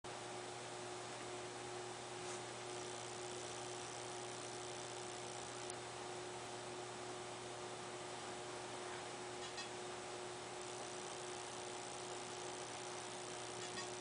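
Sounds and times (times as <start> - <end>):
electrical hum: 0.1 - 14.0
faint high whine: 0.2 - 14.0.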